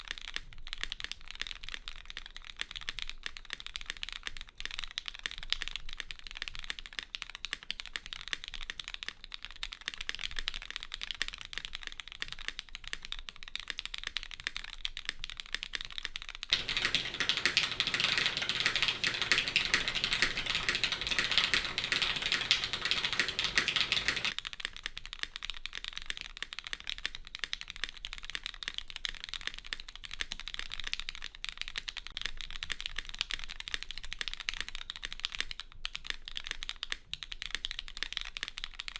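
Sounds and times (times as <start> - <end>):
mechanical keyboard typing: 2.4 - 38.8.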